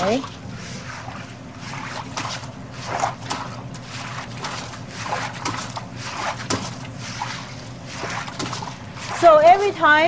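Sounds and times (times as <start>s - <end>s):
steady low hum: 0.0s - 10.0s
water sloshing in a wok: 0.0s - 10.0s.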